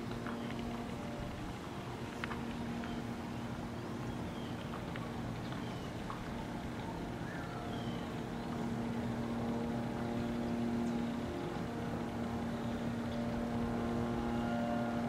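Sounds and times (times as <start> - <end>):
distant engine droning: 0.0 - 15.0.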